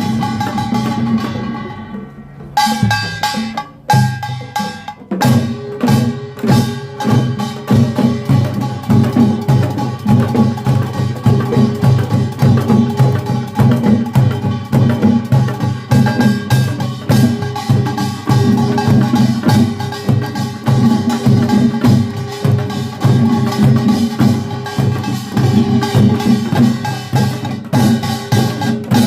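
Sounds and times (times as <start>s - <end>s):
drum strokes: 0.0s - 29.0s
hand gongs clanging: 0.0s - 29.0s.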